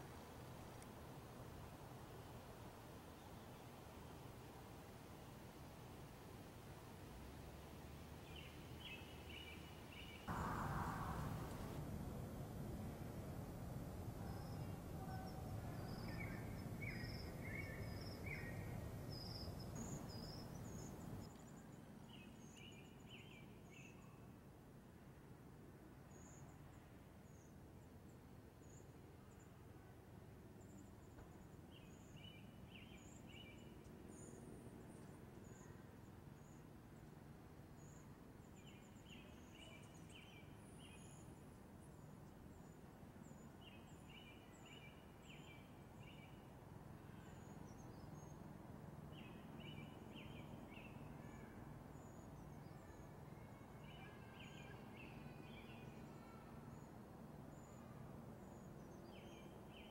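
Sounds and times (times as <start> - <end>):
low steady background rumble: 0.0 - 59.9
faint birdsong: 7.2 - 24.4, 26.0 - 59.9.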